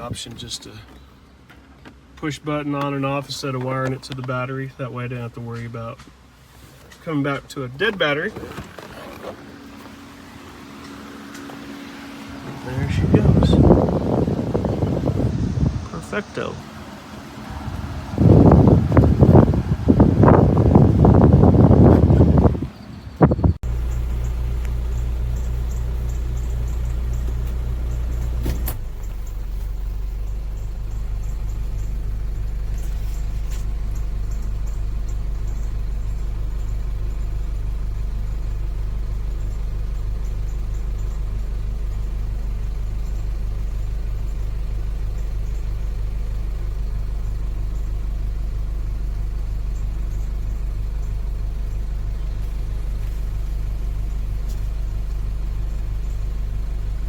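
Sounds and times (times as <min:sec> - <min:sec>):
car engine idling: 0:02.2 - 0:57.0.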